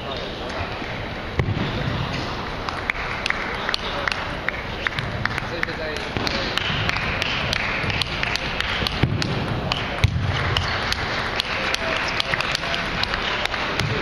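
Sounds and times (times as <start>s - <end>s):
sports hall hum: 0.0s - 14.0s.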